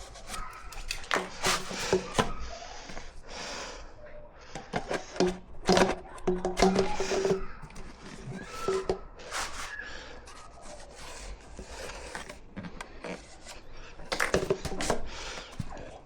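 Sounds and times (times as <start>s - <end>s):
scraping and knocking building materials: 0.0s - 3.2s, 4.5s - 16.0s.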